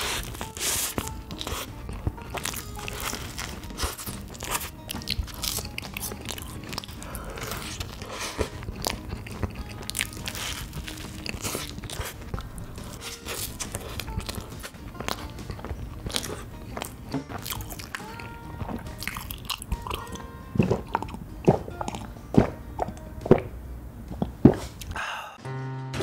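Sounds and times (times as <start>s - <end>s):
biting into pastry: 0.0s - 23.5s
wet chewing: 0.0s - 25.0s.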